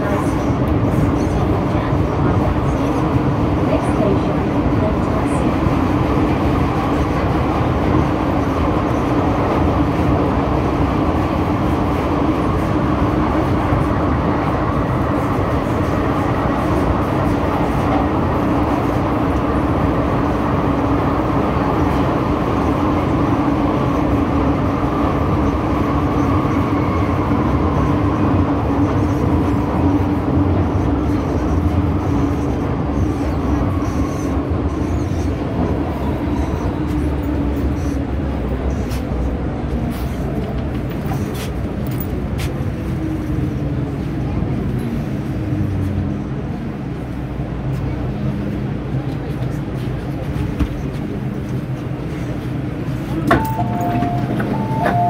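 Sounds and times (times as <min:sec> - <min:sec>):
train rumbling in motion: 0:00.0 - 0:55.0.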